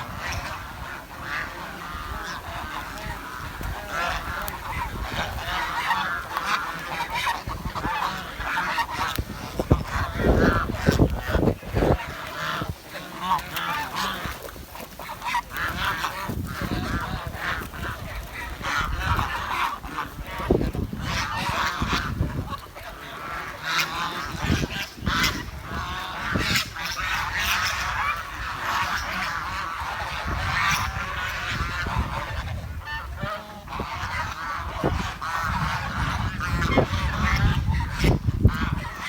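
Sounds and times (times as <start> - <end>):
swan honking: 0.0 - 39.0.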